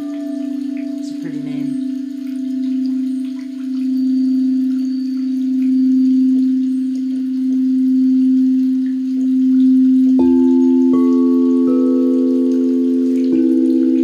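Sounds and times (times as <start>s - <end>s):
singing bowl humming: 0.0s - 14.0s
singing bowl struck ringing: 0.0s - 14.0s.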